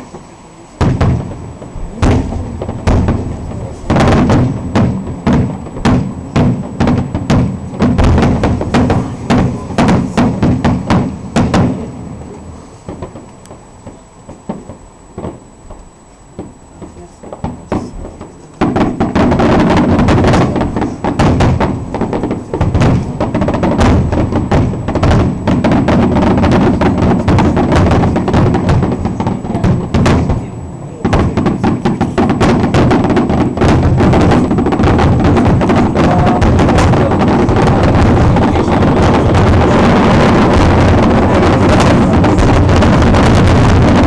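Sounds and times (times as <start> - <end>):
fireworks bangs and crackle: 0.0 - 44.0.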